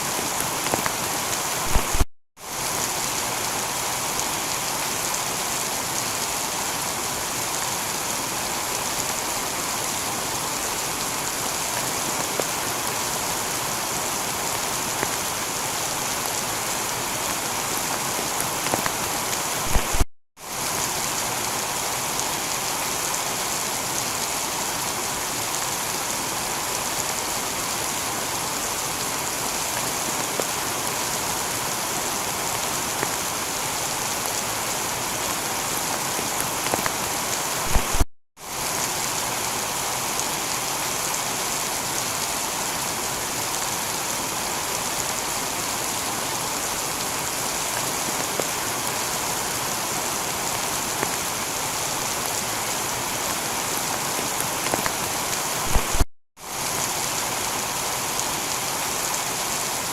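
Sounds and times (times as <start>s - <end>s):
heavy rain on a tiled roof: 0.0s - 59.9s.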